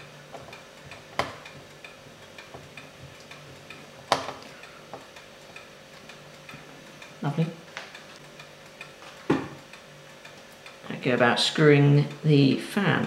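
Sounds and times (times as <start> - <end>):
faint even ticking: 0.0 - 13.0.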